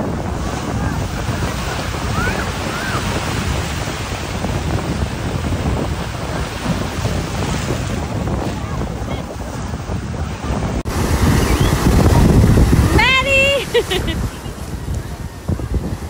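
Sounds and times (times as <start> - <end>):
ocean surf on beach: 0.0 - 16.0
wind buffeting microphone: 0.0 - 16.0.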